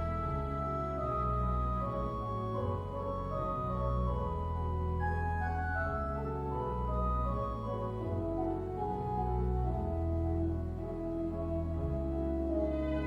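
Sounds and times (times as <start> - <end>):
organ music with sustained chords: 0.0 - 13.0.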